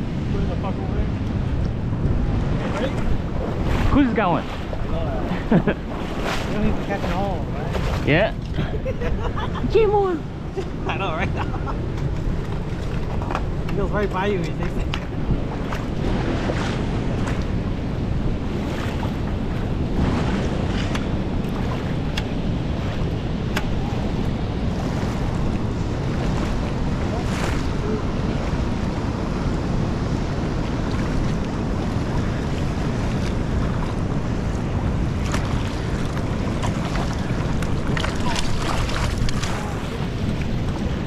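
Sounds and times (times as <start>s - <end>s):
river current rushing: 0.0s - 8.3s, 11.8s - 41.0s
wind buffeting microphone: 0.0s - 41.0s.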